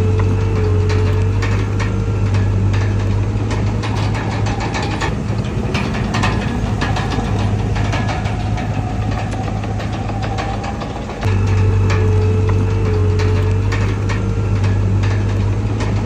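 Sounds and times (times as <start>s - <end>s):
diesel engine humming: 0.0s - 16.0s
sharp clicks and clanks: 0.0s - 16.0s.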